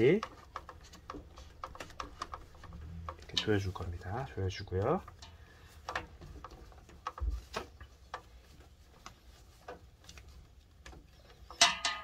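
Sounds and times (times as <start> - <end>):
plastic clicks and rubbing: 0.0 - 12.0.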